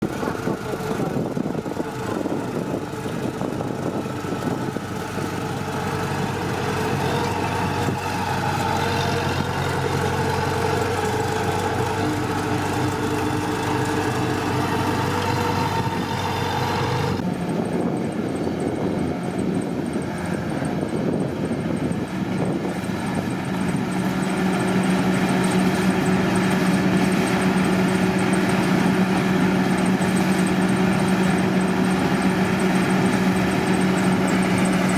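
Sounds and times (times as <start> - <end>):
combine harvester engine running: 0.0 - 34.9.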